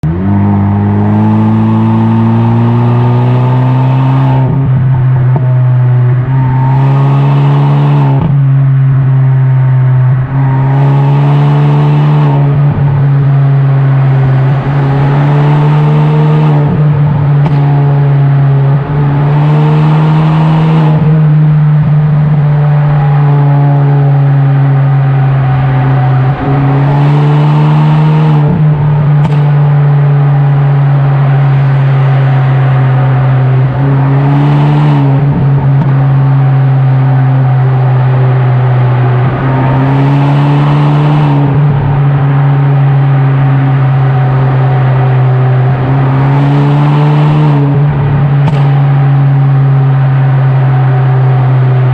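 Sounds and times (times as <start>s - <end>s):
car engine accelerating: 0.0s - 51.9s
low exhaust drone: 0.0s - 51.9s.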